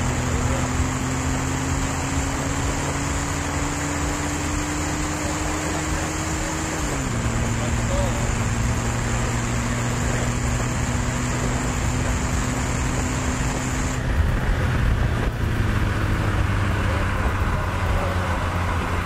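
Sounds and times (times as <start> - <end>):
car engine at steady revs: 0.0 - 19.0.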